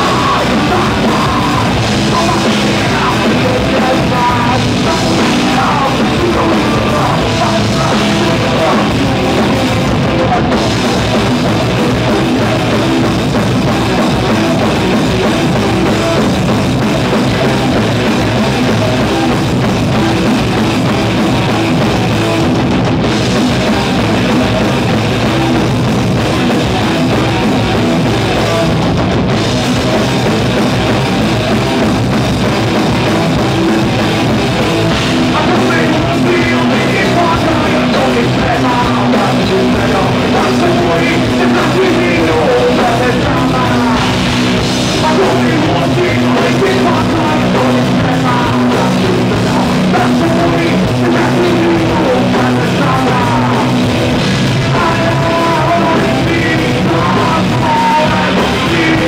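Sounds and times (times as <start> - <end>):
person singing: 0.0 - 25.6, 32.5 - 59.0
bass guitar: 0.0 - 59.0
drum kit: 0.0 - 59.0
electric guitars: 0.0 - 59.0.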